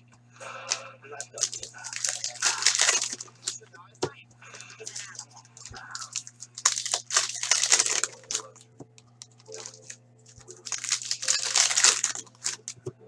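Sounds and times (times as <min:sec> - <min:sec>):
plastic wrappers crinkling: 0:00.4 - 0:12.9.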